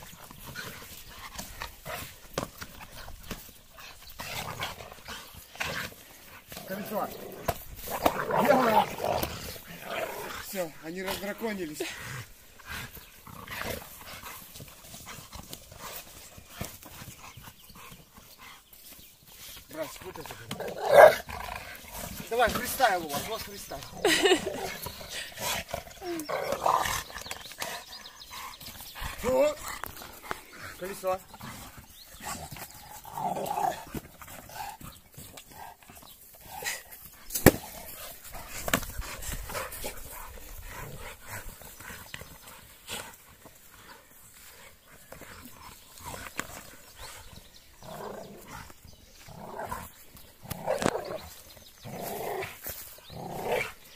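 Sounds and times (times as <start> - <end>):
dogs playing roughly: 0.0 - 53.9.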